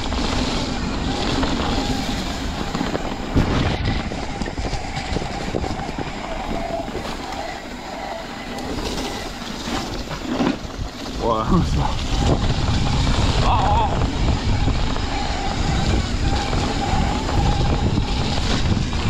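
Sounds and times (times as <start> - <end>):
bike clattering and rattling: 0.0 - 19.0
bike tyres on wet dirt: 0.0 - 19.0
wind buffeting microphone: 0.0 - 19.0.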